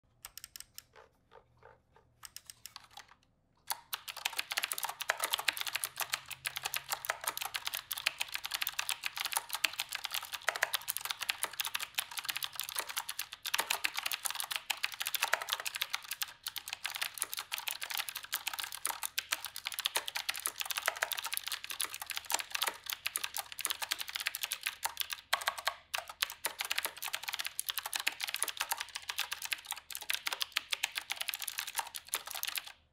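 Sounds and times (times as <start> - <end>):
mechanical keyboard typing: 0.2 - 32.8.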